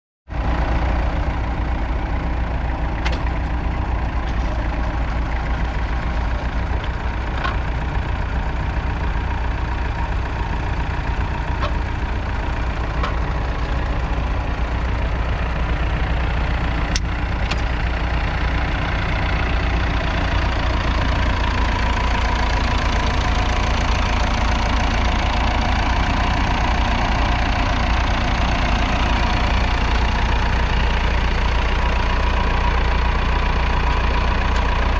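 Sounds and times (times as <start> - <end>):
tractor diesel engine running: 0.3 - 34.9.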